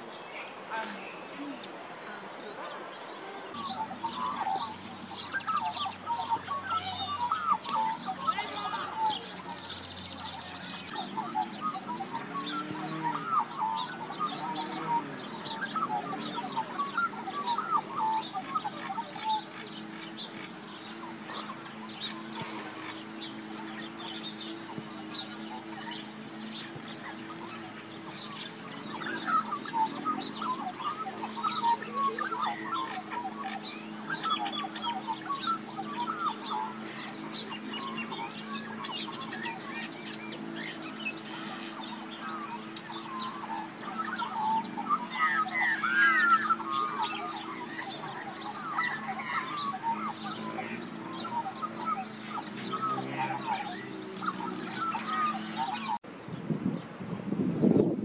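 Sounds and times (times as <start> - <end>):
bird warbling: 0.0 - 56.0
birds chirping: 0.0 - 58.0.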